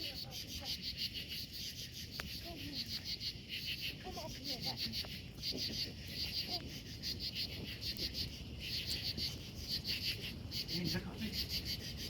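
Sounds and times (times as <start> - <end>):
bonfire burning: 0.0 - 12.0
crickets chirping: 0.0 - 12.0.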